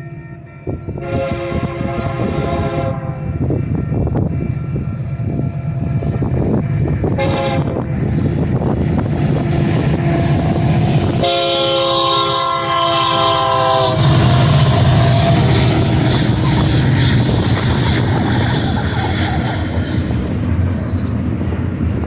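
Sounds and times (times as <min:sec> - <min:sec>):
train horn blasts: 0:00.0 - 0:20.2
diesel train engine rumble: 0:00.0 - 0:22.0
wheel and rail noise: 0:03.1 - 0:22.0.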